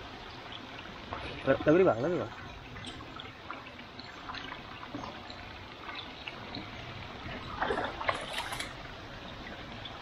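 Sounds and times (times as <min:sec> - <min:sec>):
stream trickling: 0:00.0 - 0:10.0.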